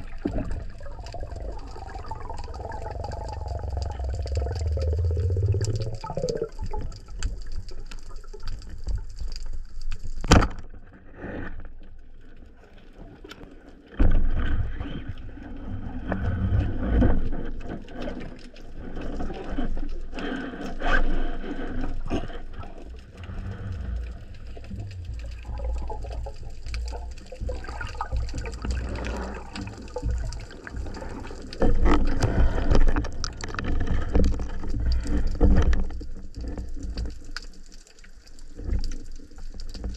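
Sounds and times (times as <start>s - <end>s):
water rushing and sloshing: 0.0s - 10.2s, 14.1s - 39.9s.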